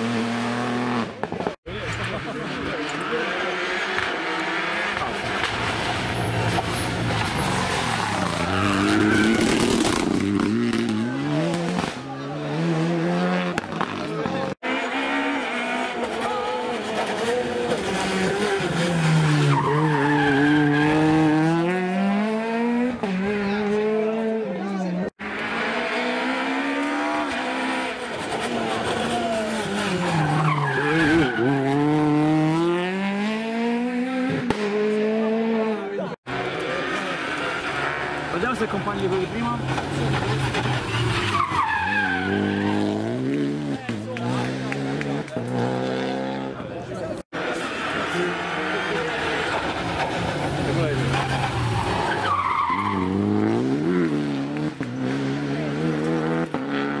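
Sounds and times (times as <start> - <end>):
rally car passing and accelerating: 0.0 - 57.0.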